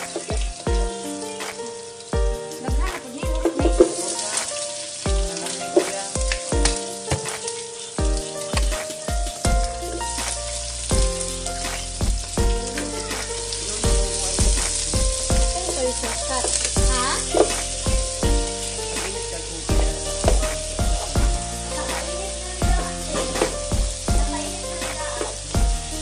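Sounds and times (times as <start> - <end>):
background music with beat: 0.0 - 26.0
food sizzling in a pan: 0.0 - 26.0.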